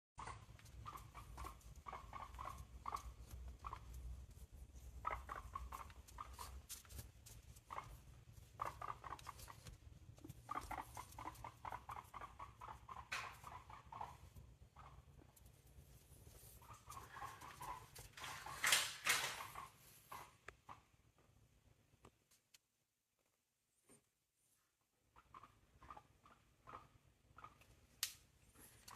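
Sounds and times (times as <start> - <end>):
guinea pig squeaking: 0.2 - 21.0, 25.0 - 28.9.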